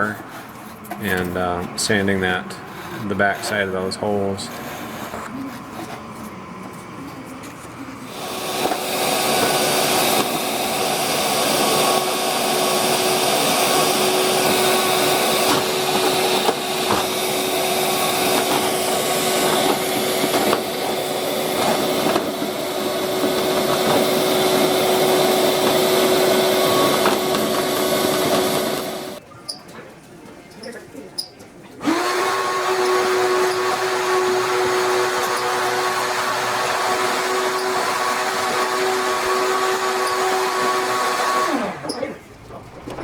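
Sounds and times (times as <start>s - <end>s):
vacuum cleaner running: 0.0s - 29.2s, 31.8s - 43.0s.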